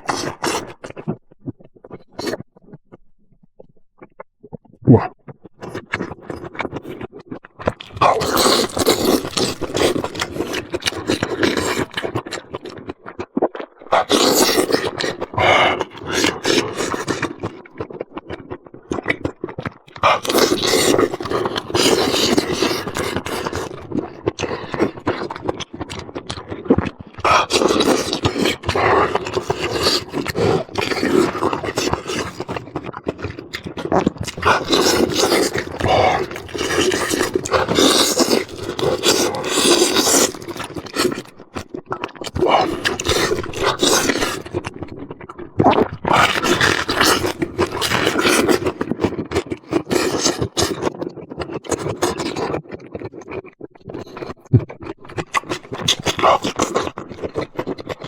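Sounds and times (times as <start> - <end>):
person chewing and smacking food: 0.0 - 58.0.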